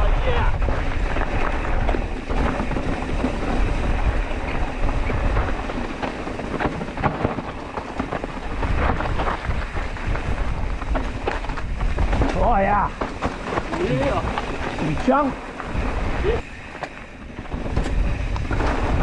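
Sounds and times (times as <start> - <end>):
bike rattling over rocks: 0.0 - 19.0
wind buffeting microphone: 0.0 - 19.0.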